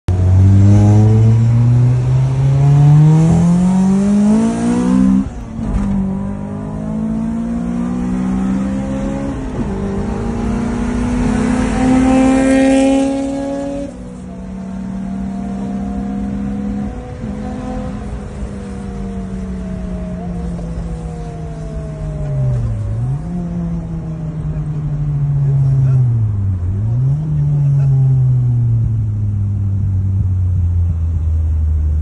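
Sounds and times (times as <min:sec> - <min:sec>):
car engine accelerating hard: 0:00.1 - 0:32.0.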